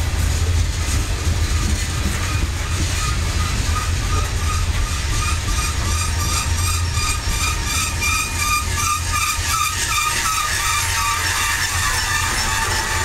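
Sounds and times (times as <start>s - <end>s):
train wheels rumbling on rail: 0.0s - 13.0s
high squeal from running gear: 2.2s - 13.0s.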